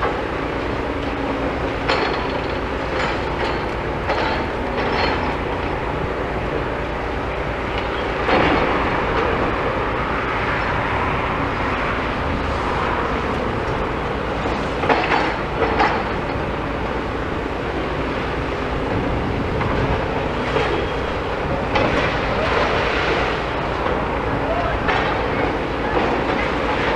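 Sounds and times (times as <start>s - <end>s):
machine engine rumble: 0.0s - 26.9s.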